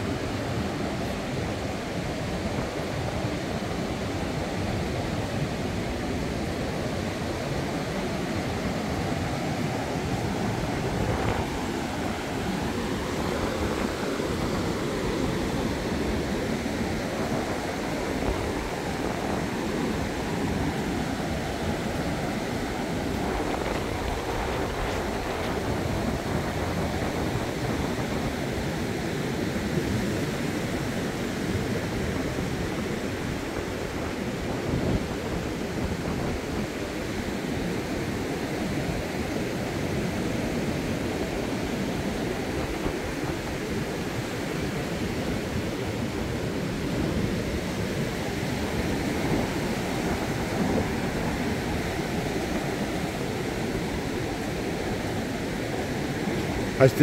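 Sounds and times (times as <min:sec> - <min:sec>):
wind rumbling on microphone: 0:00.0 - 0:56.8
surf breaking on beach: 0:07.0 - 0:57.0.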